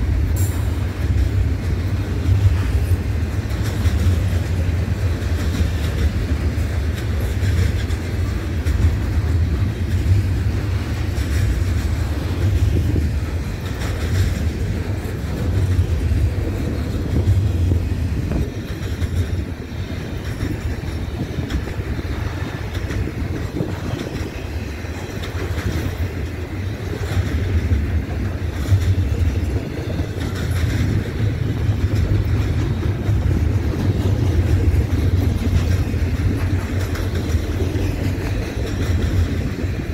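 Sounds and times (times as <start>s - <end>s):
freight train wheels rumbling: 0.0s - 39.9s
wheels clickety-clack: 0.0s - 39.9s.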